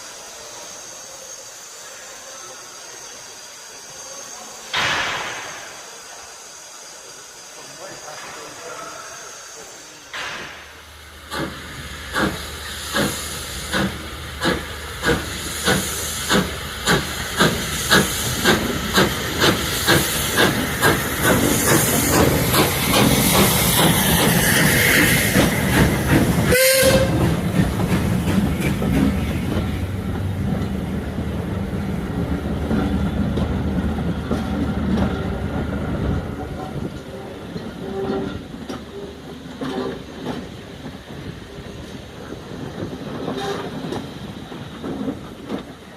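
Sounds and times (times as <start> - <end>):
steam hissing: 0.0 - 45.9
steam locomotive chuffing: 0.0 - 45.9.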